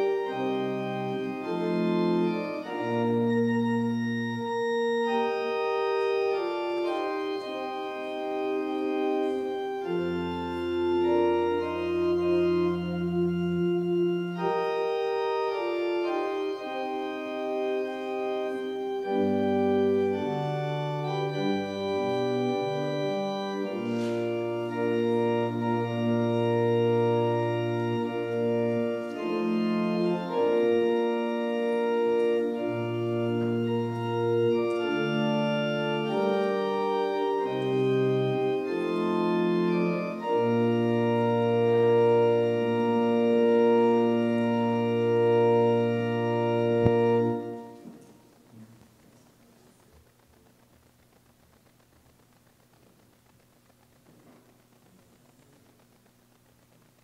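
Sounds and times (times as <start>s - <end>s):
organ playing slow chords: 0.0s - 49.1s.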